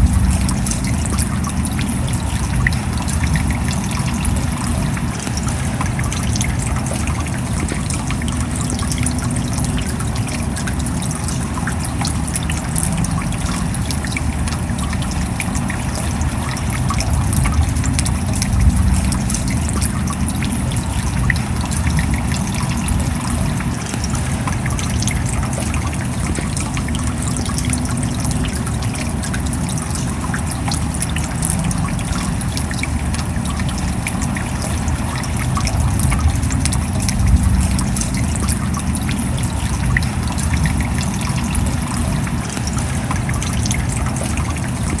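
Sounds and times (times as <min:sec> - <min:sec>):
steady rain: 0:00.0 - 0:45.0
water trickling and dripping: 0:00.0 - 0:45.0.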